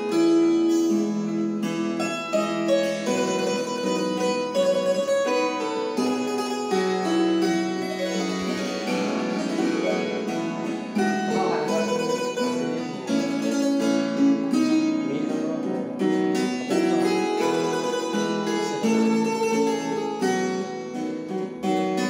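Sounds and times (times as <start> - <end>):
harp playing: 0.0 - 22.0.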